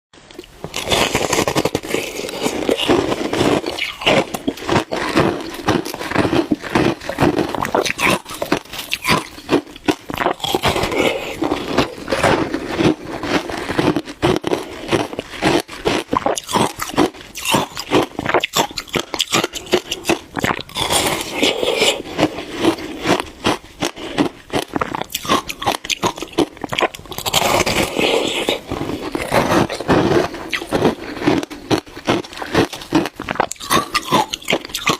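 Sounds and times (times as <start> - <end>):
chewing ice crunches: 0.3 - 34.9.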